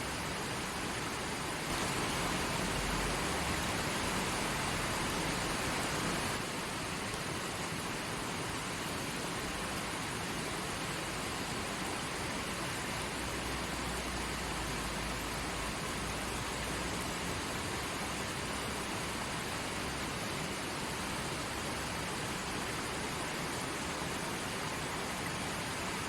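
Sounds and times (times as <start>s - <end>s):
creek water flowing over rocks: 0.0s - 26.0s.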